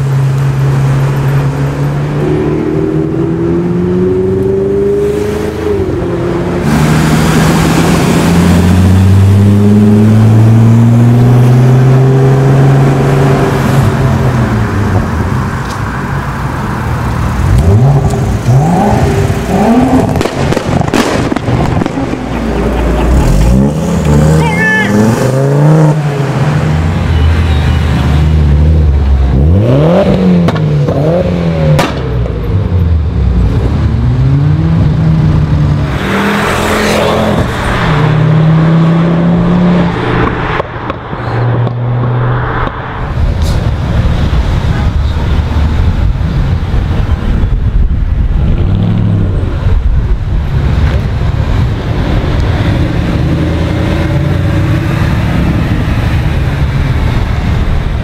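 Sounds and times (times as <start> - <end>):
cars driving away revving: 0.0 - 58.0.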